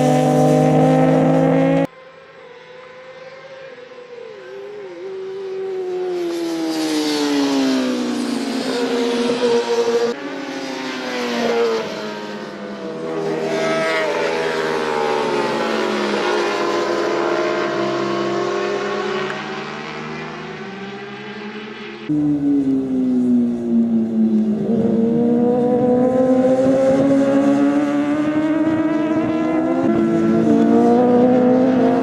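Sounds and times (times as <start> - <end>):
racing motorcycles passing by: 0.0 - 32.0.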